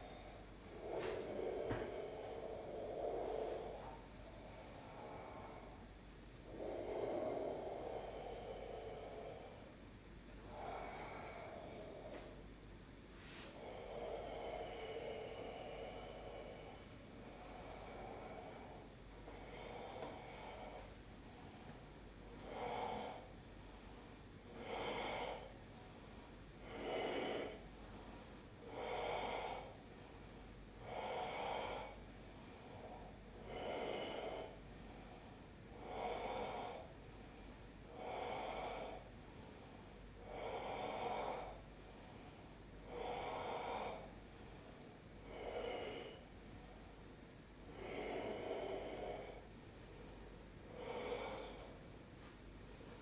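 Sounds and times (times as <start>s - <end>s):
slow hoarse breathing: 0.0s - 53.0s.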